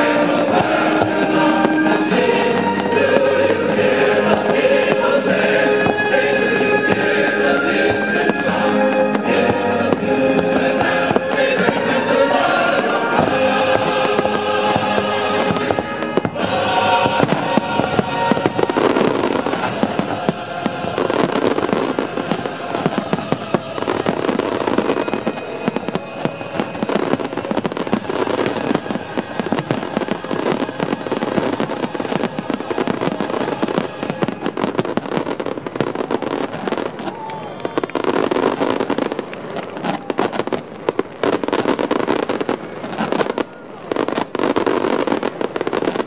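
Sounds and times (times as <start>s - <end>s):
fireworks bursting and crackling: 0.0s - 46.0s
music soundtrack: 0.0s - 46.0s.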